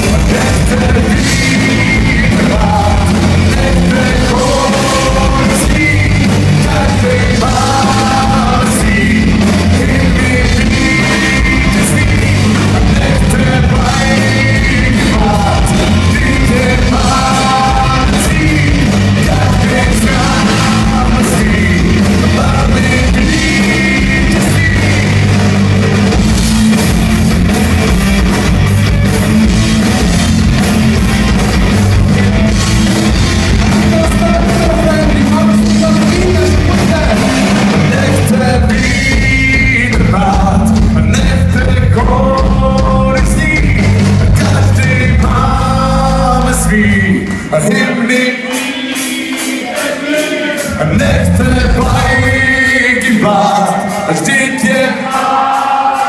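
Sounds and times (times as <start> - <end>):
person singing: 0.0 - 26.2, 32.2 - 56.0
electric guitar: 0.0 - 49.8
drums: 0.0 - 56.0.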